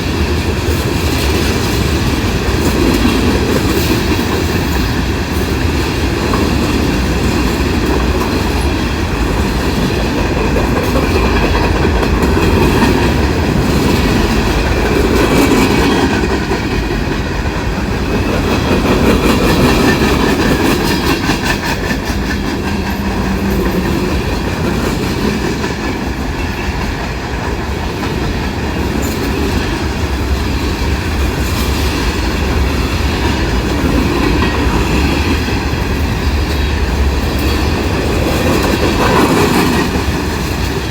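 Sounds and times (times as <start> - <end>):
freight train cars rolling: 0.0 - 40.9
wheels clicking over rail joints: 0.0 - 40.9.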